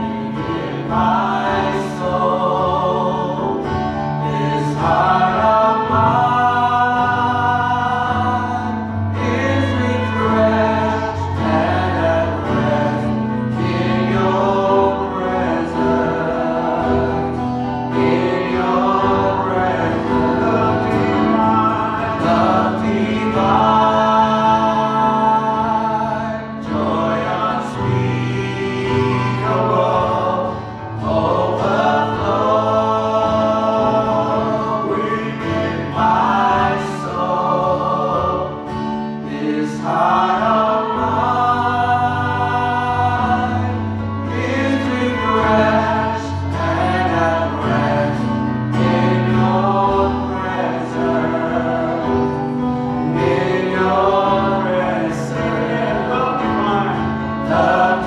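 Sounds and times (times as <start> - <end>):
group singing worship song: 0.0 - 58.0
instrumental backing: 0.0 - 58.0.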